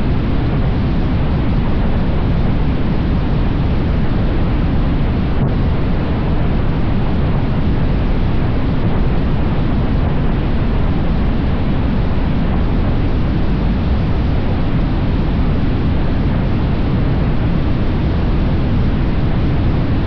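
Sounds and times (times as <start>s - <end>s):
wind rush and road noise: 0.0s - 20.0s.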